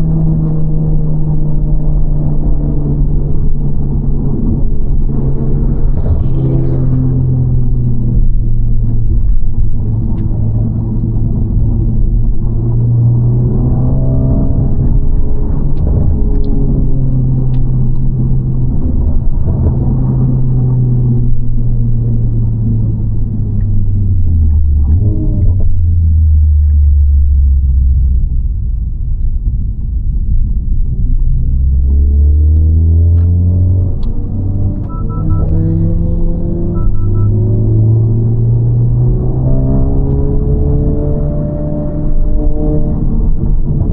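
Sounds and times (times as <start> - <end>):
car engine rumble from inside cabin: 0.0 - 43.9.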